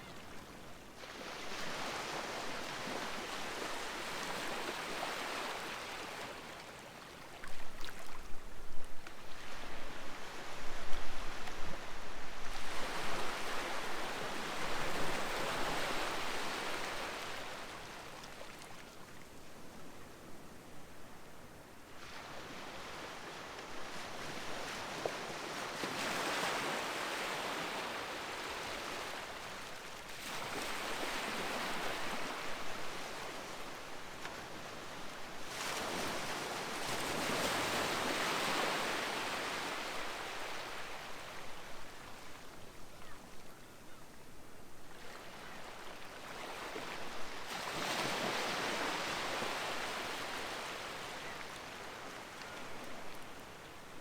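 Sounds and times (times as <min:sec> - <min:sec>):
sea waves breaking on a beach: 0:00.0 - 0:19.7, 0:21.8 - 0:43.4, 0:44.8 - 0:54.0.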